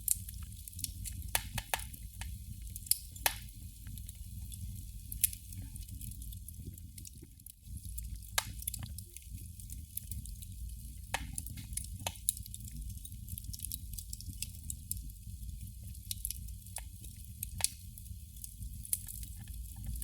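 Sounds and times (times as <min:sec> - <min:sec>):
candle flame crackling: 0:00.0 - 0:20.0.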